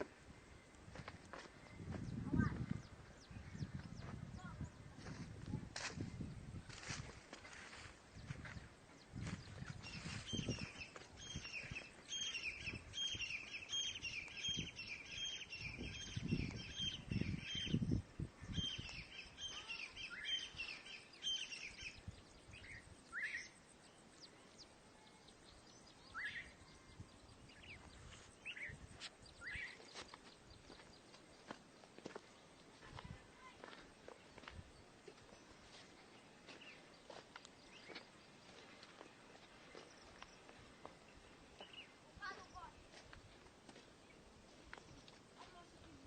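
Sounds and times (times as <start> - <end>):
birds chirping: 5.9 - 46.0.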